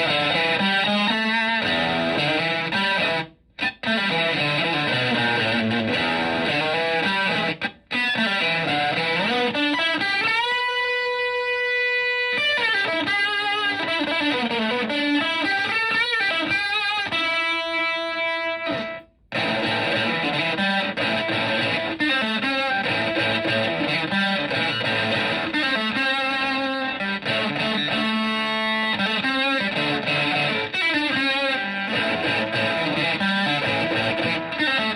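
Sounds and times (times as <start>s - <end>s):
fuzzy electric guitar: 0.0s - 34.9s.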